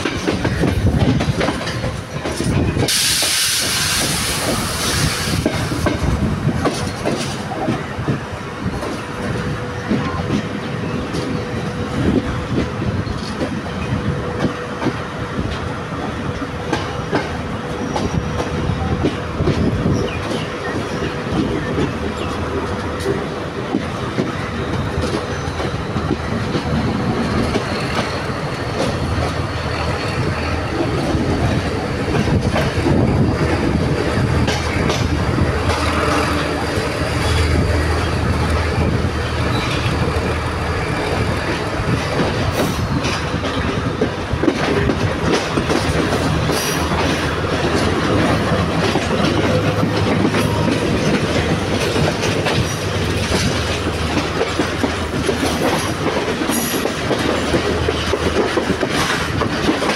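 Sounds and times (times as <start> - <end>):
wheels clacking over rail joints: 0.0 - 59.9.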